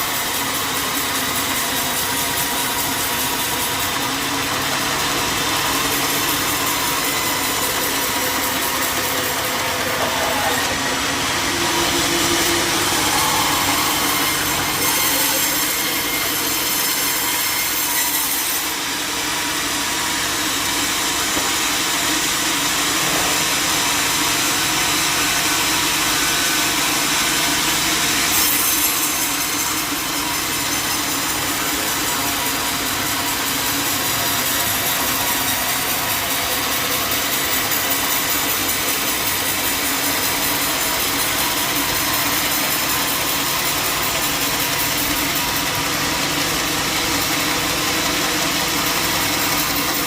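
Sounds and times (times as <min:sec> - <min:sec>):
saw blade cutting through log: 0:00.0 - 0:50.0.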